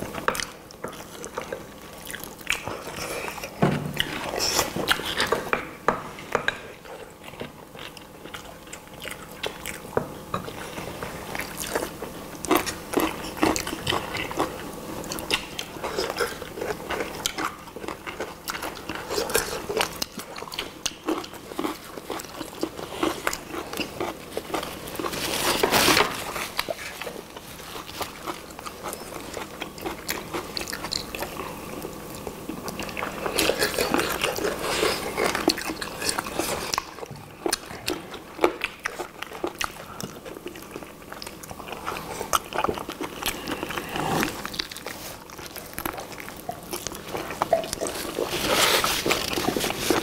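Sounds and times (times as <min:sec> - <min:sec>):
people chewing chicken: 0:00.0 - 0:05.8, 0:06.4 - 0:50.0.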